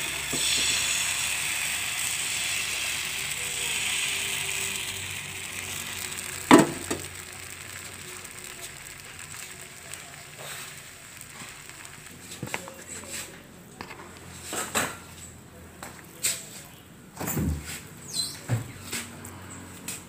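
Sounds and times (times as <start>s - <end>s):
batter sizzling in frying pan: 0.0s - 16.6s.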